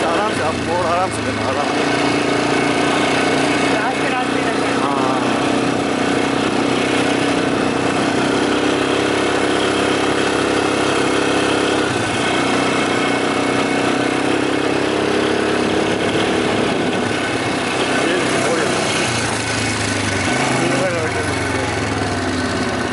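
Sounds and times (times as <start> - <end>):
quad bike engine running: 0.0 - 22.9.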